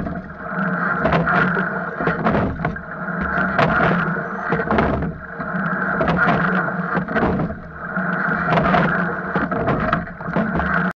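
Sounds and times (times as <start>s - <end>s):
oars clicking and knocking: 0.0s - 10.9s
oars splashing: 0.0s - 10.9s
water rushing along hull: 0.0s - 10.9s.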